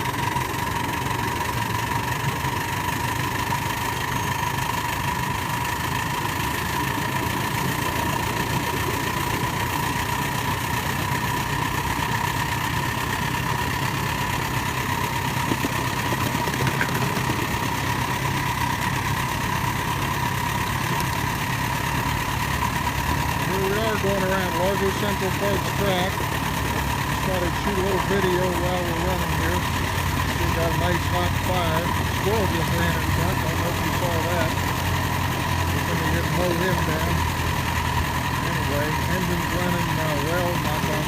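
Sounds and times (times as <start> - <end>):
steam locomotive running: 0.0 - 41.0.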